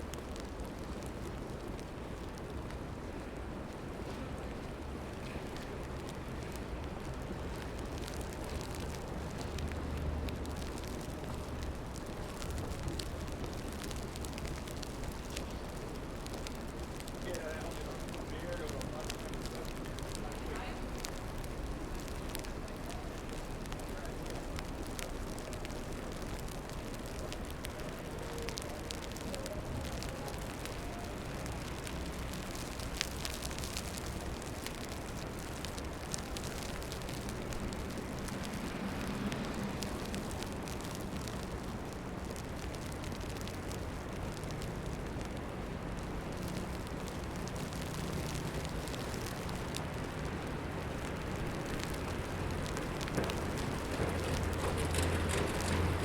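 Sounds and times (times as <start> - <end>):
crackling hiss of snowstorm: 0.0 - 56.0
low traffic hum: 0.0 - 56.0
faint clicks: 4.0 - 56.0.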